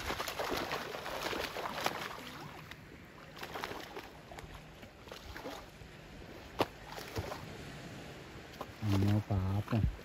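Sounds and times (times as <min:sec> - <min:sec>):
shallow water splashing: 0:00.0 - 0:10.0.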